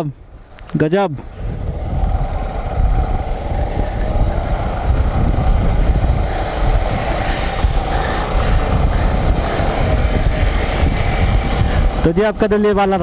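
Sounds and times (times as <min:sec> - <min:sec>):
road noise: 0:00.0 - 0:13.0
wind buffeting microphone: 0:00.2 - 0:13.0
motorcycle engine: 0:00.4 - 0:13.0.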